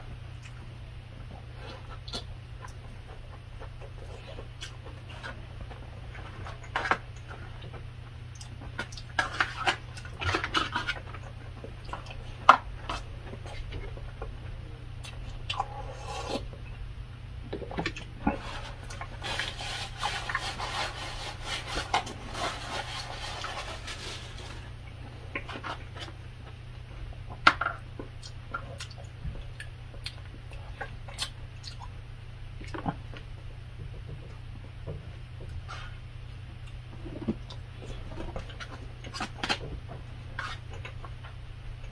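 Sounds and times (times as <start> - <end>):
person chewing food: 0.3 - 16.7, 17.4 - 32.0, 32.6 - 41.9.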